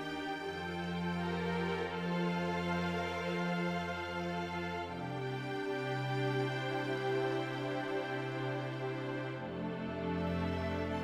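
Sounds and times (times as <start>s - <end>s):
string ensemble playing sad chords: 0.0s - 11.0s.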